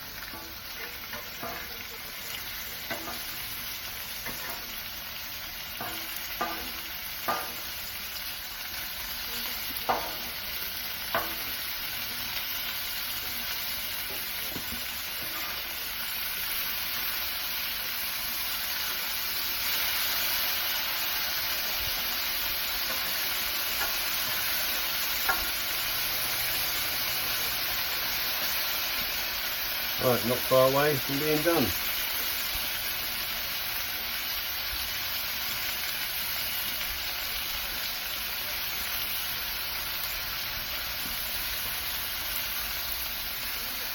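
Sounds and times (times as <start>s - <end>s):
meat sizzling on griddle: 0.0s - 43.9s.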